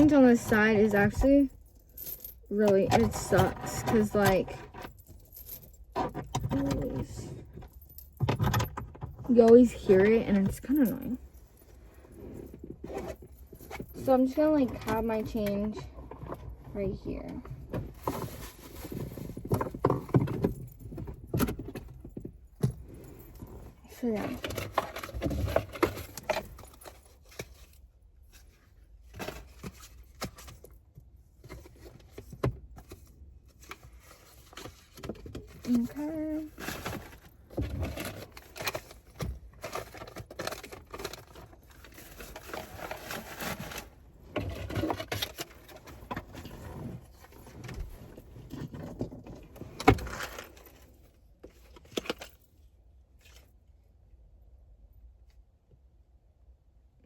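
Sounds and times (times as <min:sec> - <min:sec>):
rustling and scraping: 0:00.0 - 0:53.7.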